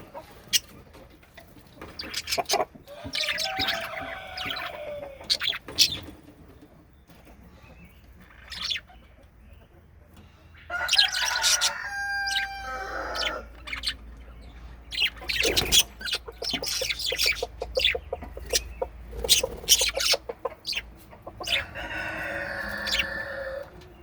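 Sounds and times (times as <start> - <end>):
budgerigars chirping and chattering: 0.1 - 24.0.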